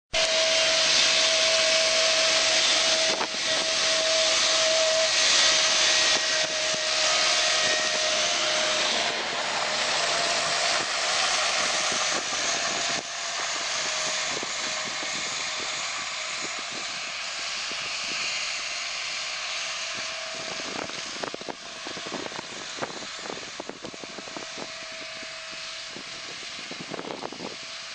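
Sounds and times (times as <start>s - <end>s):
steady whine: 0.1s - 27.9s
vehicle engine hissing: 0.2s - 27.9s.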